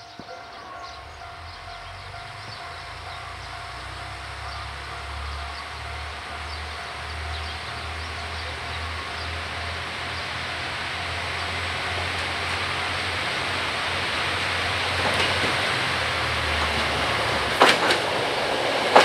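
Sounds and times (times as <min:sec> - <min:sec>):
diesel train engine rumble: 0:00.0 - 0:19.0
train wheel noise: 0:00.0 - 0:19.0.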